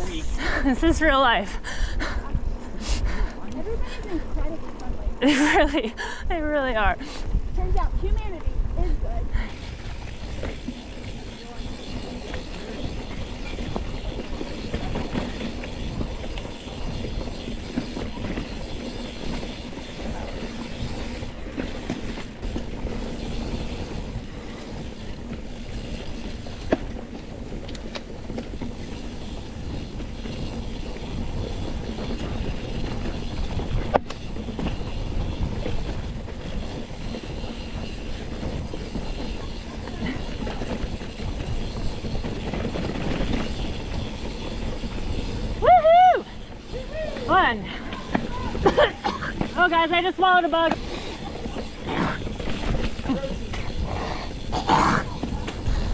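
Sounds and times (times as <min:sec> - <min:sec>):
mountain bike rumbling and rattling: 0:00.0 - 0:55.9.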